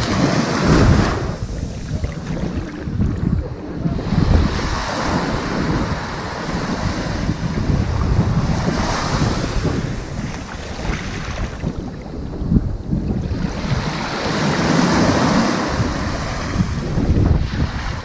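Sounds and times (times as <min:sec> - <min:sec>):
ocean waves on sandy beach: 0:00.0 - 0:18.0.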